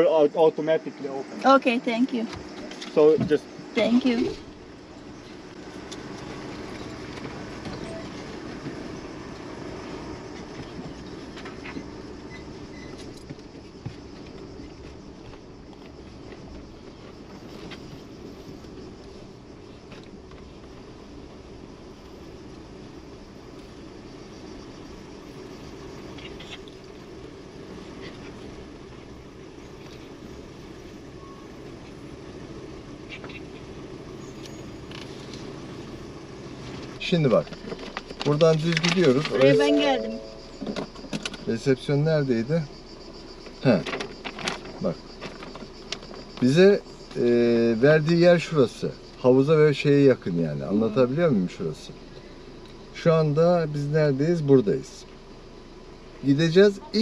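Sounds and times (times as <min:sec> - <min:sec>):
car engine rumble from inside: 0:01.0 - 0:39.6, 0:40.2 - 0:57.0.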